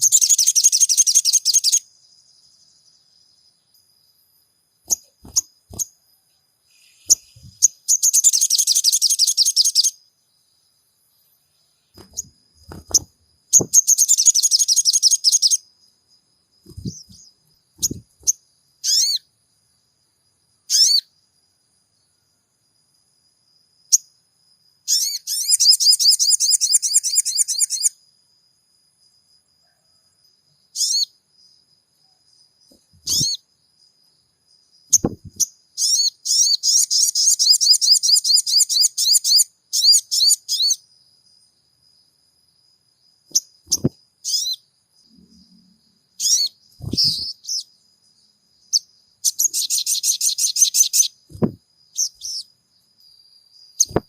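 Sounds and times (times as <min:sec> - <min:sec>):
bird chirping: 0:00.0 - 0:04.2, 0:04.8 - 0:19.8, 0:20.6 - 0:21.2, 0:24.8 - 0:28.0, 0:30.6 - 0:33.9, 0:34.5 - 0:41.5, 0:43.0 - 0:54.0.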